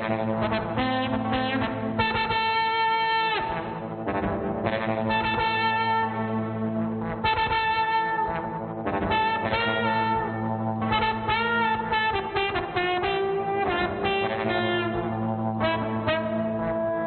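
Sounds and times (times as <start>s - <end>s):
low electronic drone: 0.0s - 17.0s
trombone playing short notes: 0.0s - 17.0s.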